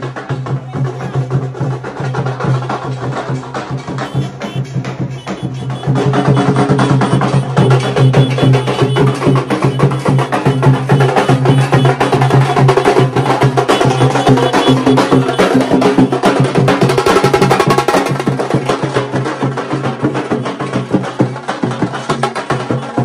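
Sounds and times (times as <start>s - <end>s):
drums beaten with sticks: 0.0s - 23.0s.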